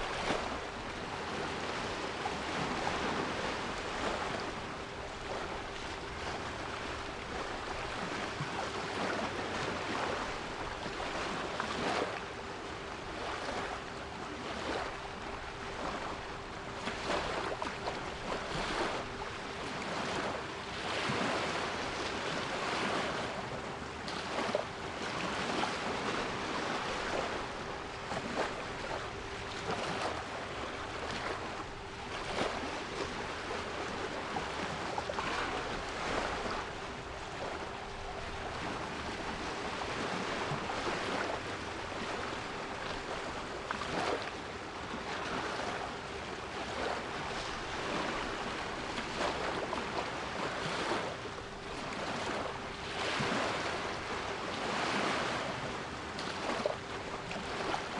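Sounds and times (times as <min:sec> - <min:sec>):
sea waves washing in: 0:00.0 - 0:57.9.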